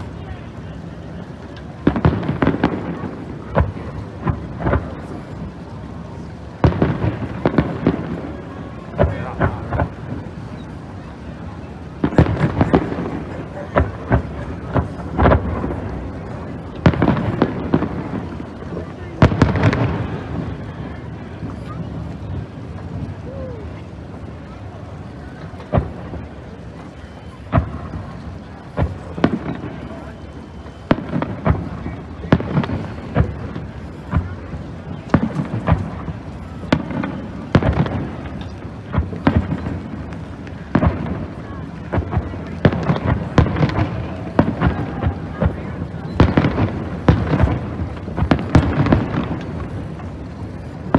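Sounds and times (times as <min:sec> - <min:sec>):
fireworks bangs and booms: 0:00.0 - 0:50.9.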